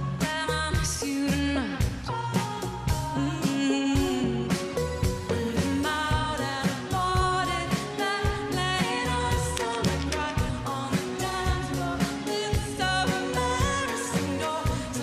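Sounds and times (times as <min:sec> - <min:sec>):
bass guitar: 0:00.0 - 0:15.0
electric guitar: 0:00.0 - 0:15.0
woman singing: 0:00.0 - 0:15.0.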